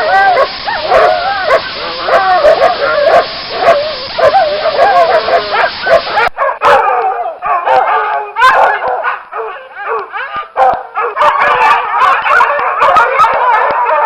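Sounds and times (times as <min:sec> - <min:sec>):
pack of dogs barking: 0:00.0 - 0:14.0.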